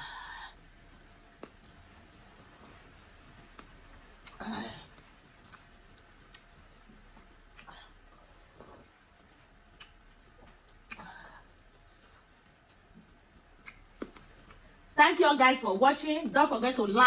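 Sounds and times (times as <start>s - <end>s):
faint eating sounds: 0.0s - 15.0s.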